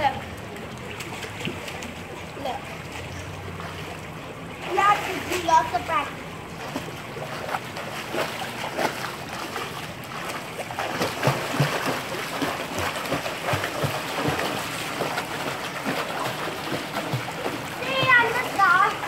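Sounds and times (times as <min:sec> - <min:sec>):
pool water splashing: 0:00.0 - 0:19.0.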